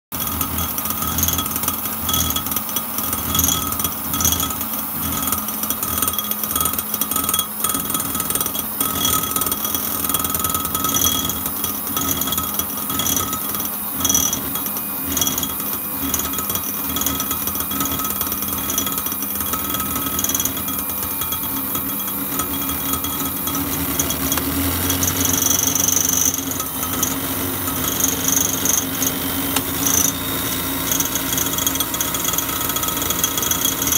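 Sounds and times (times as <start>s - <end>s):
beaters clattering in glass jug: 0.1s - 33.9s
hand mixer motor whine: 0.2s - 33.9s.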